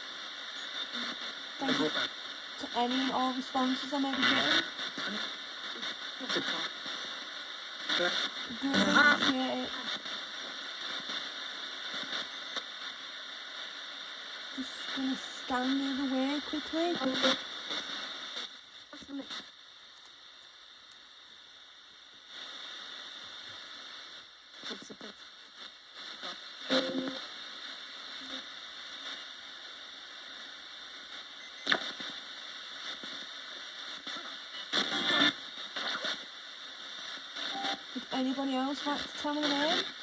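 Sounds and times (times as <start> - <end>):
snatches of broadcast sound: 0.0 - 21.0, 22.3 - 40.0
radio static hiss: 0.0 - 40.0.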